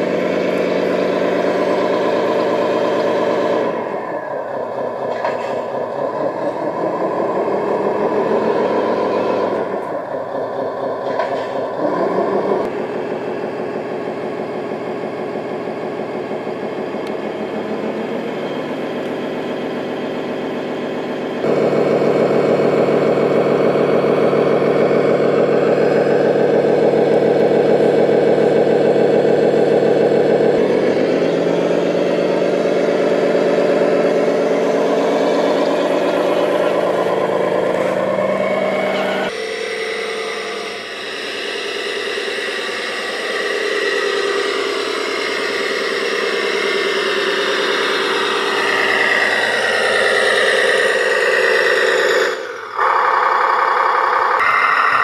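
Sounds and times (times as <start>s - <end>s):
simulated diesel engine revving: 0.0s - 55.0s.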